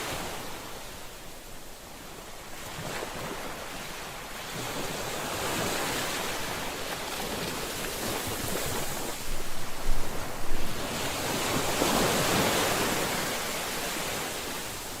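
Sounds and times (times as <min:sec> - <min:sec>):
ocean waves breaking: 0:02.4 - 0:15.0.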